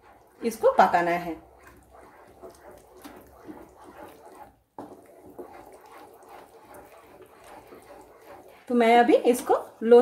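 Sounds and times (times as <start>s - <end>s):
wet stirring strokes: 0.0s - 10.0s.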